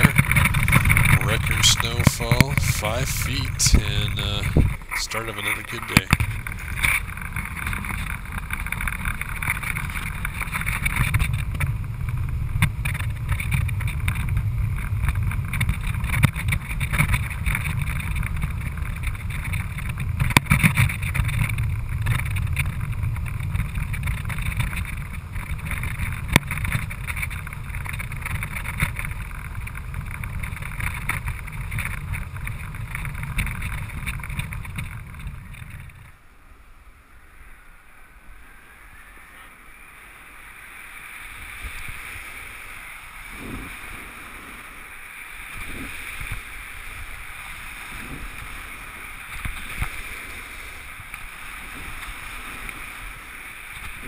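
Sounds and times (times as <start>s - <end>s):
vehicle driving on snowy road: 0.0s - 54.0s.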